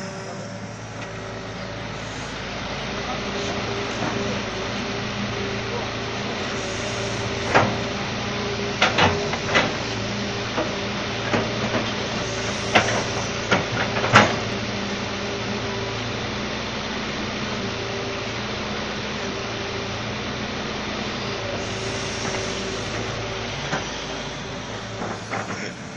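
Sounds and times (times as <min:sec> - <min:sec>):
excavator diesel engine running: 0:00.0 - 0:25.9.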